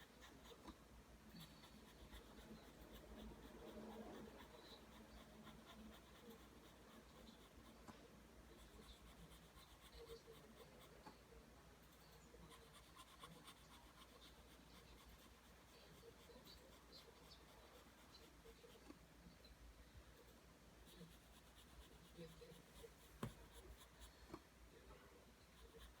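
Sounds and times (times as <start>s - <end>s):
pencil scratching on paper: 0.0s - 19.0s, 20.0s - 24.4s, 25.4s - 26.0s.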